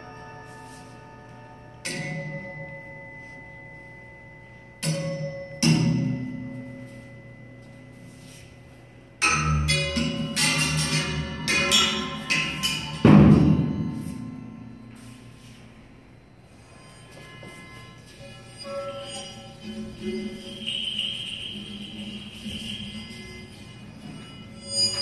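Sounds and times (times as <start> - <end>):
struck percussion notes ringing: 0.0 - 25.0.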